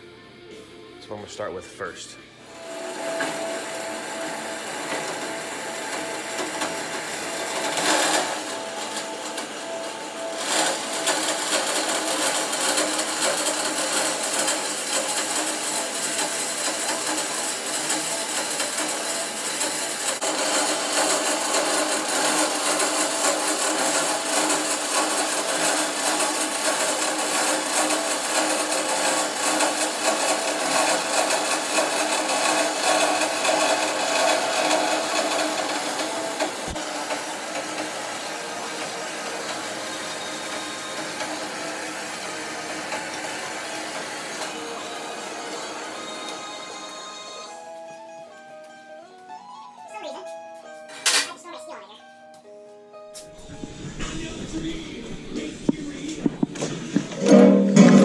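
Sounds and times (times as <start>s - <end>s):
band saw cutting steel: 2.5s - 47.5s, 53.2s - 58.0s.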